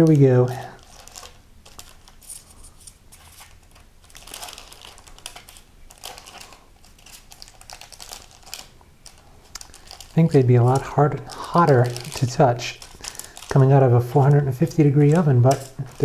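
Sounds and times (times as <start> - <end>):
parchment paper crinkling: 0.0 - 16.0.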